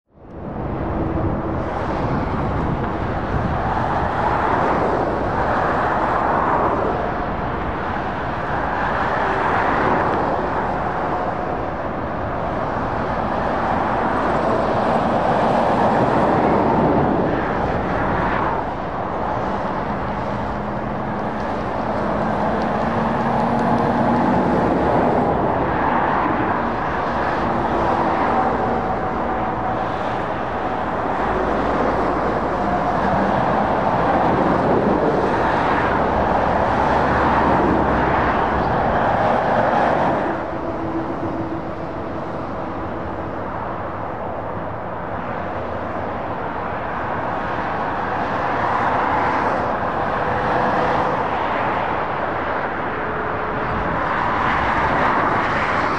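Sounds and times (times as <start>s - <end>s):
motorway traffic passing: 0.1s - 55.9s.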